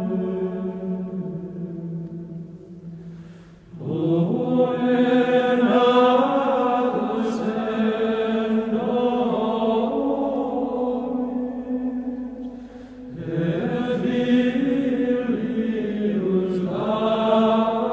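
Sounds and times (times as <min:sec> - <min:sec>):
chant-like music with held voice tones: 0:00.0 - 0:17.9.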